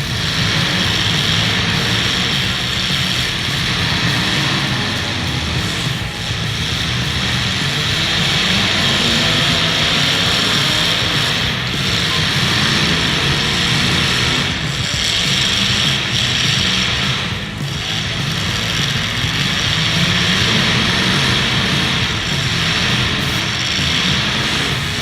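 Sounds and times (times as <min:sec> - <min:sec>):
car engines running loudly: 0:00.0 - 0:25.0.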